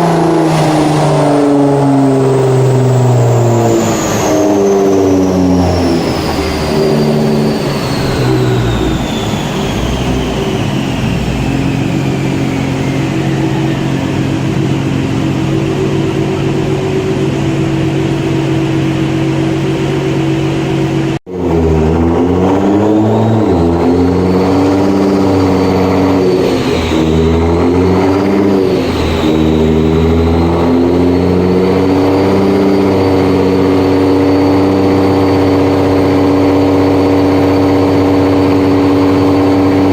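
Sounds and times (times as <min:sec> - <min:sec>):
car engine revving on a dyno: 0:00.0 - 0:39.9
high whine: 0:00.0 - 0:39.9.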